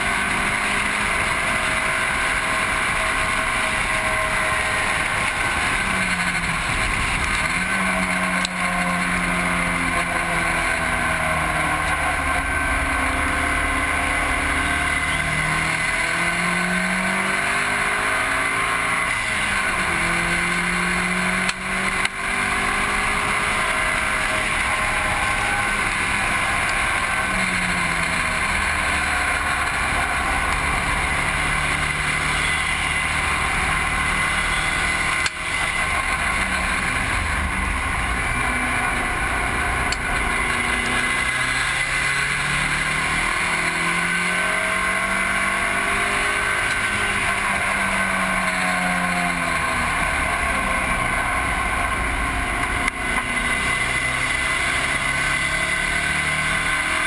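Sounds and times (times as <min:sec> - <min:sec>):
race car engine revving: 0:00.0 - 0:57.0
wind and road noise: 0:00.0 - 0:57.0.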